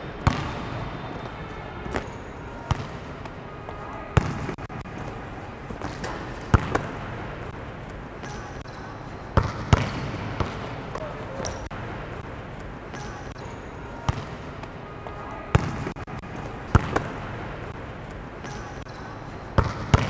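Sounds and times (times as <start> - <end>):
basketballs bouncing on court: 0.0 - 14.7, 15.5 - 20.0.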